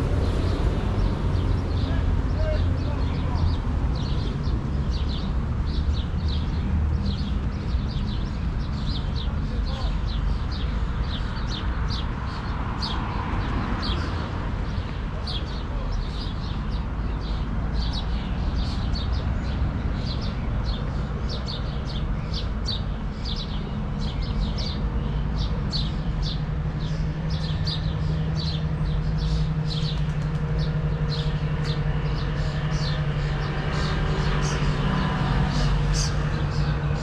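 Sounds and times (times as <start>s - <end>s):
city traffic rumble: 0.0s - 37.0s
engine hum: 0.0s - 37.0s.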